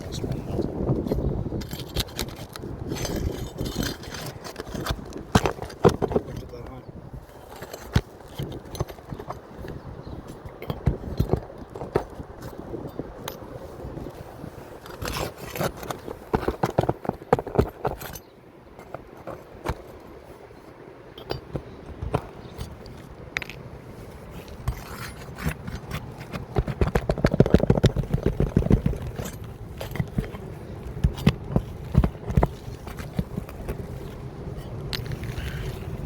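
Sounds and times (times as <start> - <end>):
tools scraping and tapping shingles: 0.0 - 20.4, 21.1 - 36.0.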